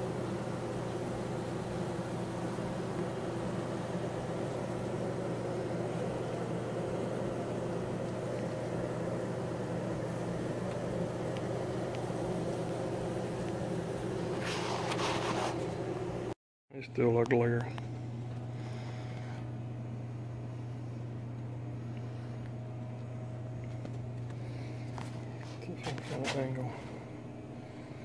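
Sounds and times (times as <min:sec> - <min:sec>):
honeybee colony humming: 0:00.0 - 0:16.4, 0:17.0 - 0:28.0.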